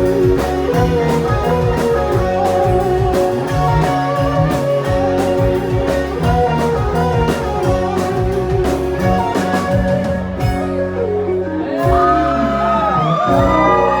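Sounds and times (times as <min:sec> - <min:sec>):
drum kit steady beat: 0:00.0 - 0:10.9, 0:11.8 - 0:12.4, 0:13.1 - 0:14.0
bass: 0:00.0 - 0:14.0
guitar melody: 0:00.0 - 0:14.0.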